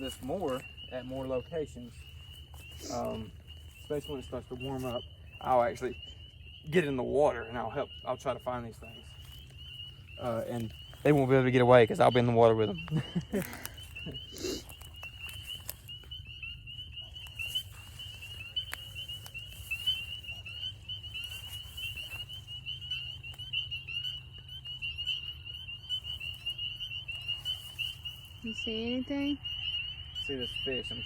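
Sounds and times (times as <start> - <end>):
spring peepers chorus: 0.0 - 31.0.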